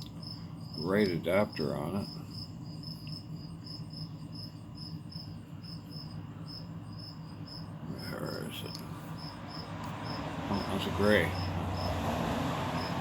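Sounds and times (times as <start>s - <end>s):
cricket chirping: 0.0s - 13.0s
low steady hum: 0.0s - 13.0s.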